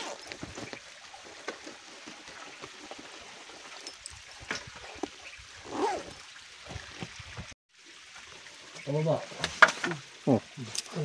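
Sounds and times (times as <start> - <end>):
water trickling over rock: 0.0 - 11.0.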